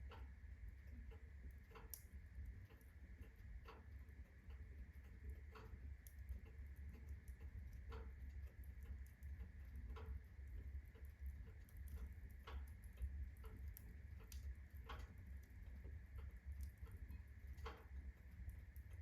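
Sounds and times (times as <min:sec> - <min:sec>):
logs crackling in fireplace: 0:00.0 - 0:19.0
low fire rumble: 0:00.0 - 0:19.0.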